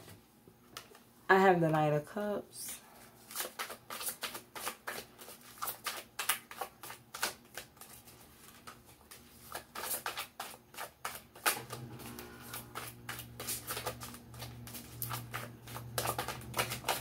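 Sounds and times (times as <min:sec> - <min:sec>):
cards being shuffled: 0:03.0 - 0:17.0.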